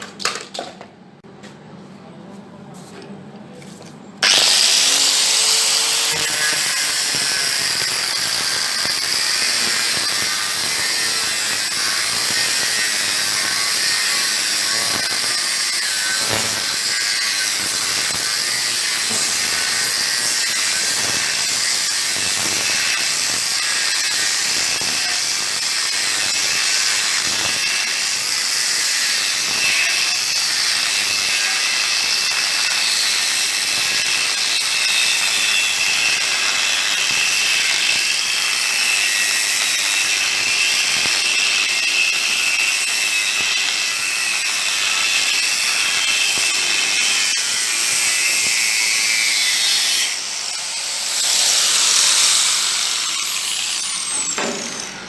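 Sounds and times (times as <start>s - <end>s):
power saw cutting steel plate: 4.2s - 55.0s.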